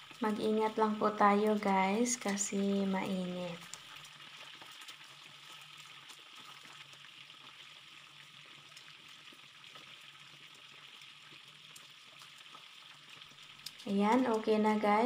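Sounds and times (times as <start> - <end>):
oil sizzling with pops: 0.0 - 15.0.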